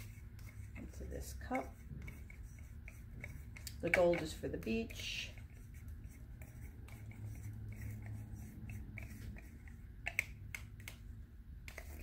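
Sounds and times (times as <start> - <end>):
wooden stick scraping plastic cup: 0.0 - 11.0, 11.7 - 12.0.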